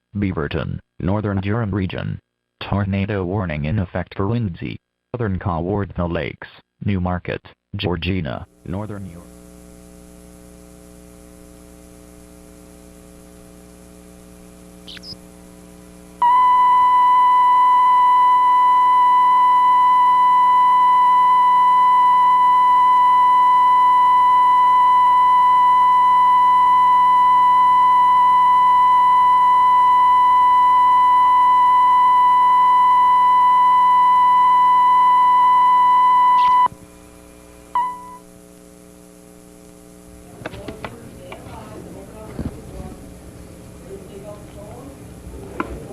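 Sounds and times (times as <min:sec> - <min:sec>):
low mains hum: 0:00.0 - 0:45.9.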